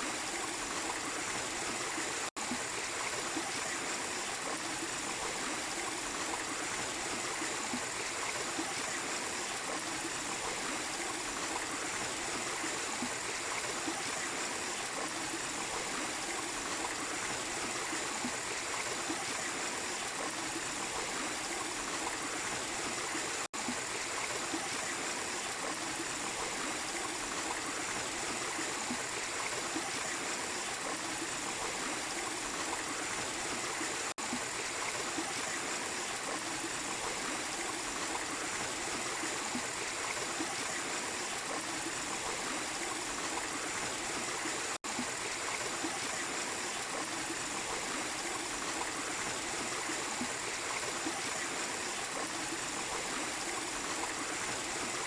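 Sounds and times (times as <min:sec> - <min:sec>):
waterfall and stream running: 0:00.0 - 0:55.0.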